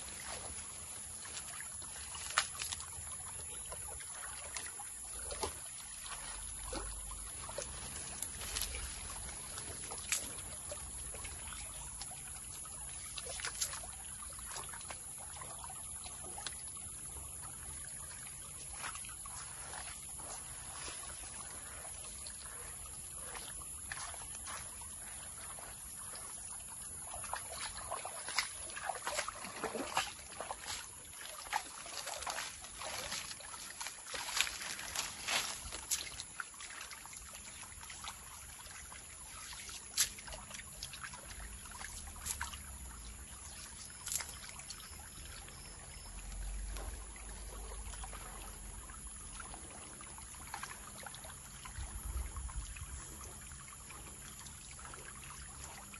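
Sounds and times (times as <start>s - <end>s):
short water splashes: 0.0s - 55.9s
water sloshing and trickling: 0.0s - 55.9s.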